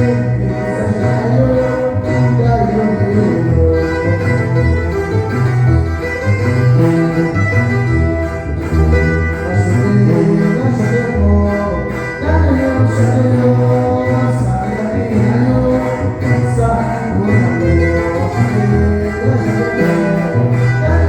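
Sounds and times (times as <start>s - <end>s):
live band music: 0.0s - 21.0s
tuba bass line: 0.0s - 21.0s.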